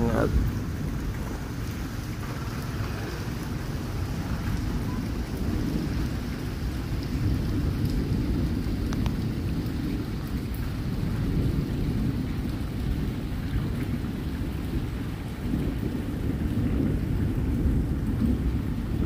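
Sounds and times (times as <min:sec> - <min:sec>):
deep rumble of thunder: 0:00.0 - 0:19.0
heavy rain falling: 0:00.0 - 0:19.0.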